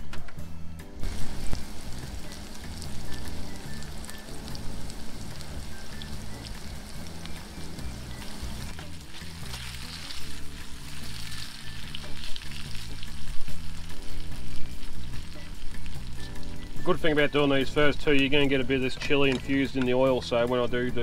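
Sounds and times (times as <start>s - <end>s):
potato chips frying in oil: 1.0s - 18.5s.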